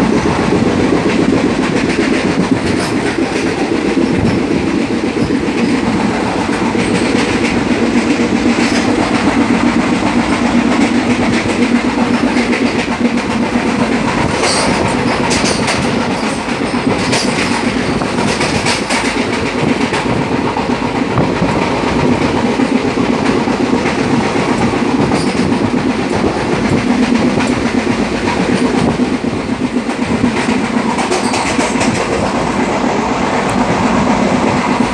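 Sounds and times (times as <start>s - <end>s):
clickety-clack over rail joints: 0.0s - 34.9s
train wheels rumbling on track: 0.0s - 34.9s.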